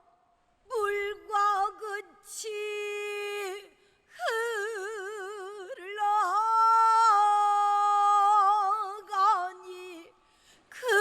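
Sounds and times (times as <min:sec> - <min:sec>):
woman singing unaccompanied: 0:00.7 - 0:11.0.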